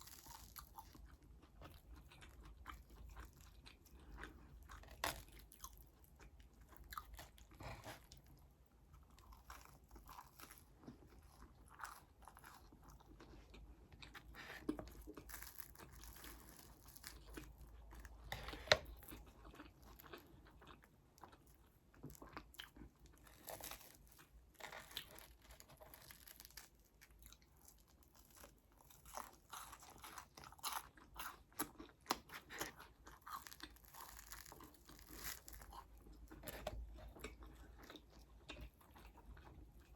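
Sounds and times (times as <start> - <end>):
chewing with crunches: 0.0 - 39.9.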